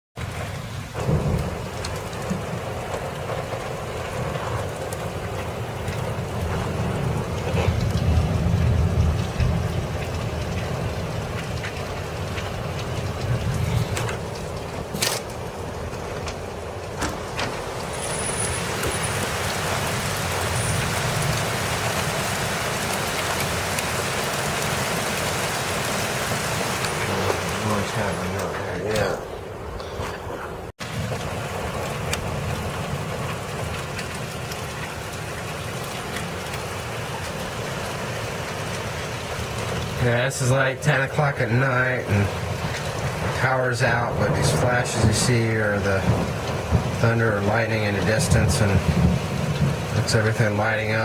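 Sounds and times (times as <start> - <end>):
deep thunder rumble: 0.2 - 51.0
rain and wind rushing: 0.2 - 51.0.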